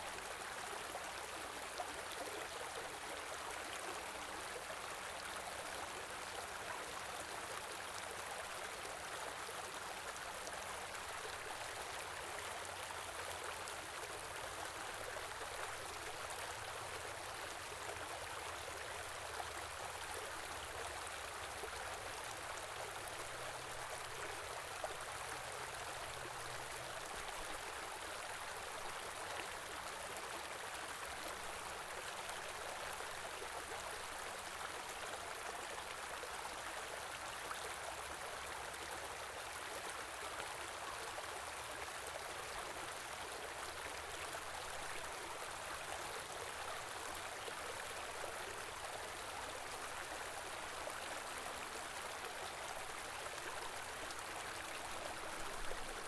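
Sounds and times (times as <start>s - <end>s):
stream flowing: 0.2s - 56.0s.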